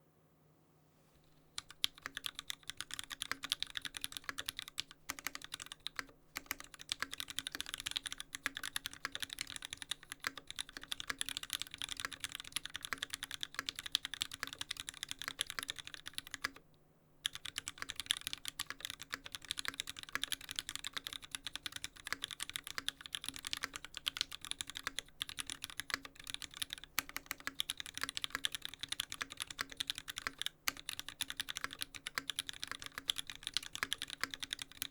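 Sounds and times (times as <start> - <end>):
fast mechanical keyboard typing: 1.5 - 16.6, 17.2 - 34.9.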